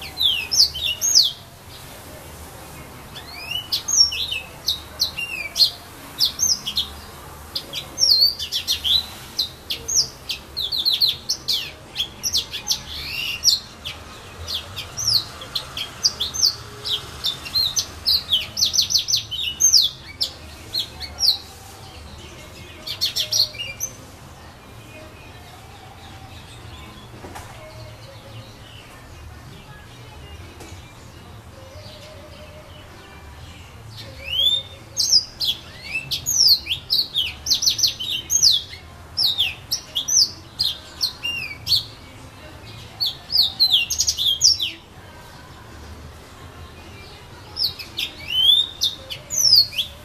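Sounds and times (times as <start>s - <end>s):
canary singing: 0.0s - 50.0s.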